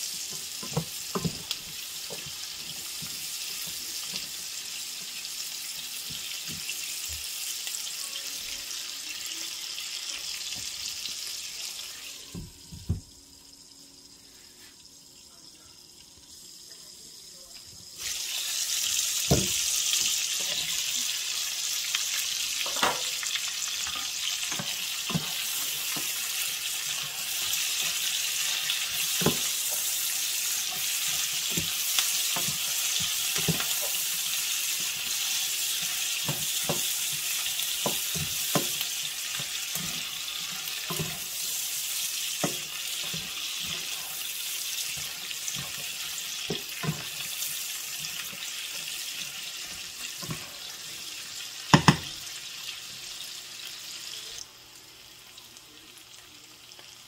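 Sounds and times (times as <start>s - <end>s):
vegetables sizzling in a pan: 0.0s - 57.0s.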